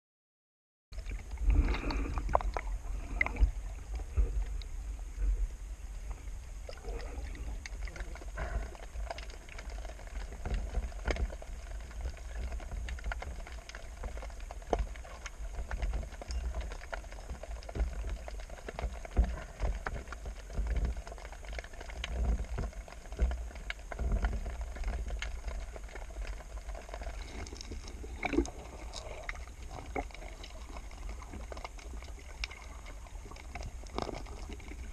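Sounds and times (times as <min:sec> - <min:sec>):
water sloshing and gurgling: 0:00.9 - 0:34.9.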